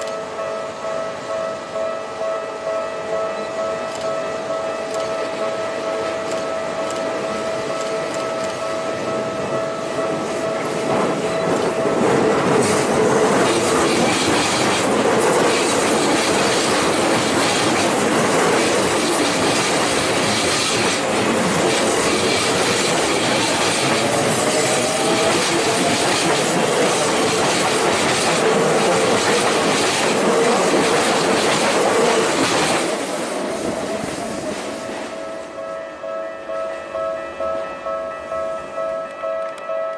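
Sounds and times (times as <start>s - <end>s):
train wheels rumbling on rails: 0.0s - 35.6s.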